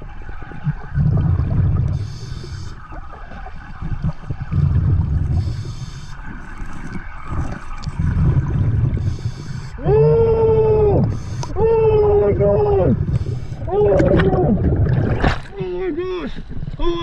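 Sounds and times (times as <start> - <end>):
exhaled bubbles rumbling: 0.0 - 17.0.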